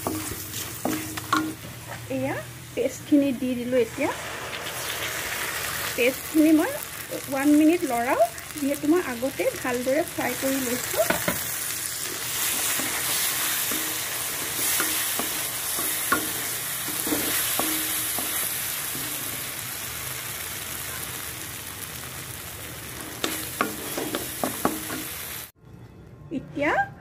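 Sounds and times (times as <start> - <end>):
paste sizzling in hot oil: 0.0 - 1.6, 3.5 - 25.6.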